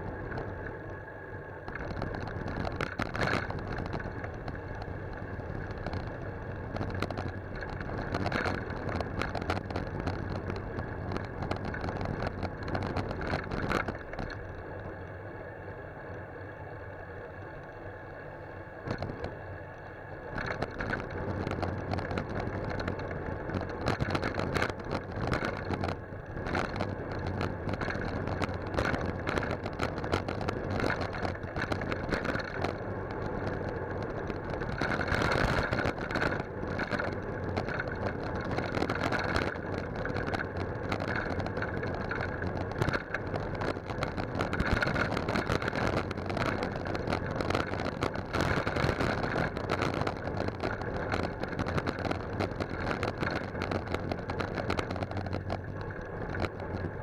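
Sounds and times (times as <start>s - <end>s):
bicycle tyre noise: 0.0s - 57.0s
bicycle knocks and rattles: 1.7s - 14.6s, 18.9s - 19.4s, 20.3s - 57.0s.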